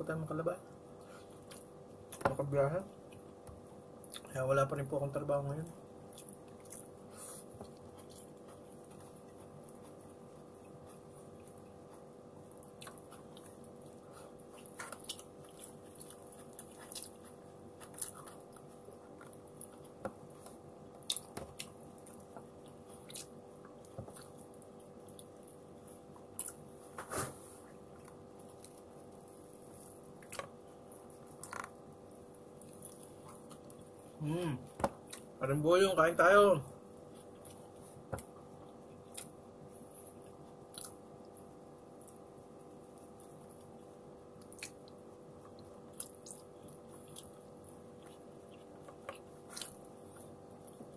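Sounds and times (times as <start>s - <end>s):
steady faint hum: 0.0s - 50.9s
person chewing and mouth smacks: 3.0s - 4.3s, 6.0s - 26.8s, 27.7s - 31.8s, 32.5s - 34.0s, 34.6s - 35.4s, 37.1s - 39.5s, 40.1s - 50.9s.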